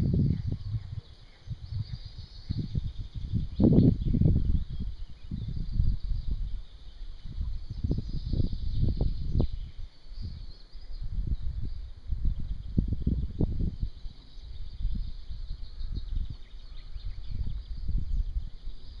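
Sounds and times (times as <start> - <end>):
wind gusting against microphone: 0.0 - 19.0.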